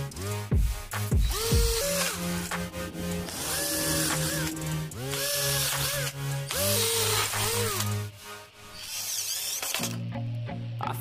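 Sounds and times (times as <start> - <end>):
cordless drill whirring: 0.0 - 10.0
background music: 0.0 - 11.0.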